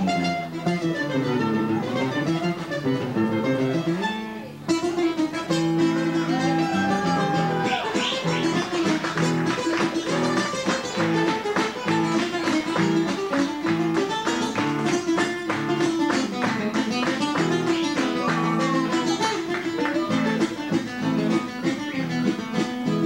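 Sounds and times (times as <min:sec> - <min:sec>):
classical guitar duo playing: 0:00.0 - 0:23.0.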